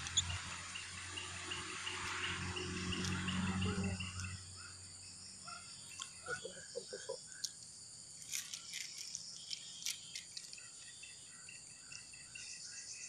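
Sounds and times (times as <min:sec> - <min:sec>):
insect chorus hiss: 0:00.0 - 0:13.0
short high insect chirps: 0:00.0 - 0:13.0.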